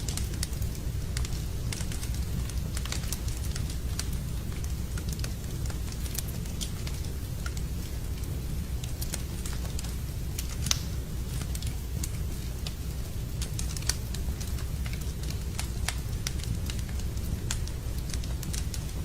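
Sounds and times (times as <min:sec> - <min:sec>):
steady low rumble: 0:00.0 - 0:19.0
wood fire crackling: 0:00.0 - 0:19.0.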